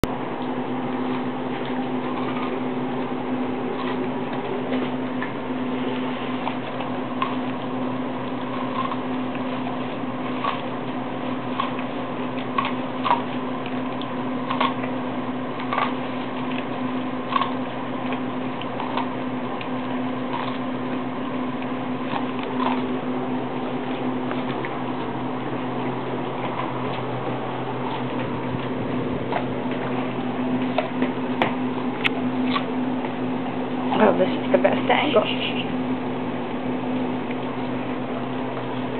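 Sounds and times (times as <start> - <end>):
dog chewing corn cob: 0.0 - 34.8, 35.7 - 38.9
steady low hum: 0.0 - 38.9.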